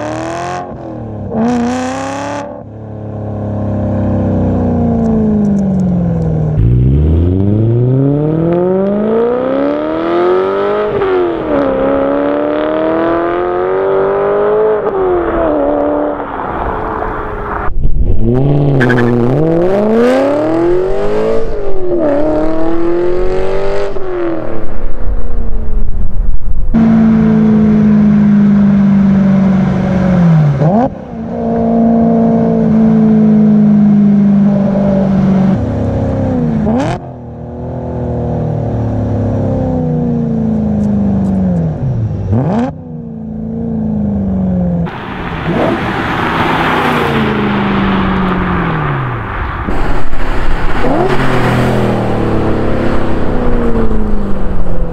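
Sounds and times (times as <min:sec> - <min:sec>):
car engine revving: 0:00.0 - 0:25.7, 0:26.7 - 0:54.9.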